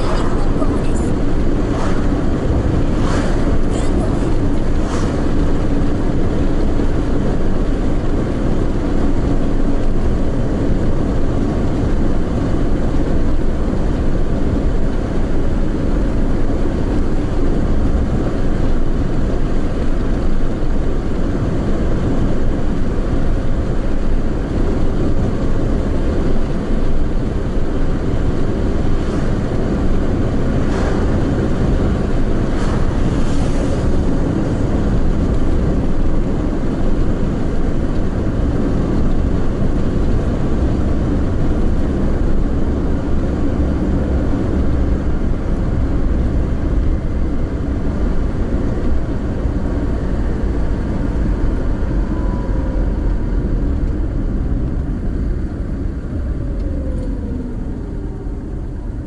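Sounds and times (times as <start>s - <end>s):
car driving road rumble: 0.0s - 59.0s.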